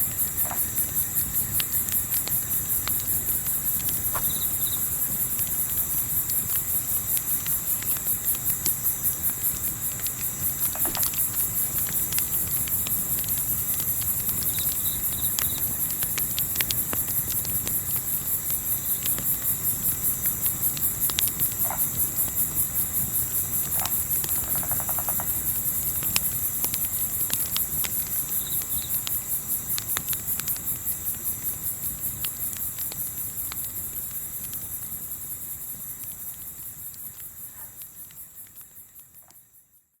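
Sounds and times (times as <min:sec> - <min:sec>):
campfire crackles: 0:00.0 - 0:39.9
crickets chirping: 0:00.0 - 0:40.0.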